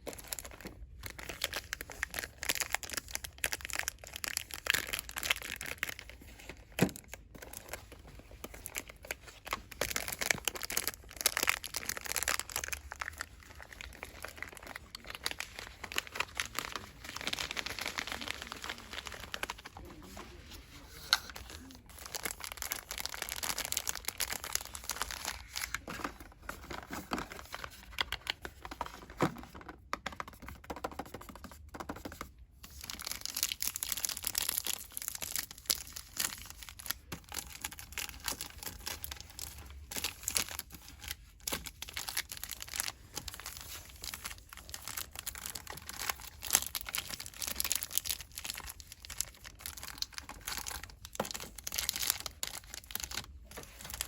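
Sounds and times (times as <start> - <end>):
packaging rustling and crinkling: 0.0 - 29.7, 32.6 - 54.0.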